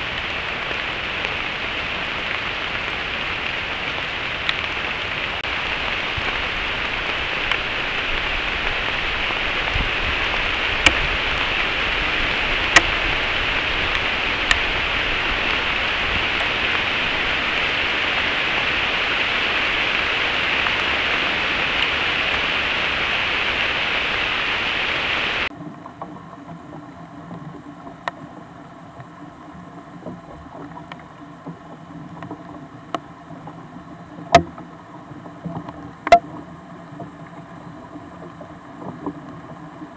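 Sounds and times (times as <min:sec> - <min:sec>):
rain hiss: 0:00.0 - 0:39.9
raindrops ticking on microphone: 0:00.0 - 0:39.9.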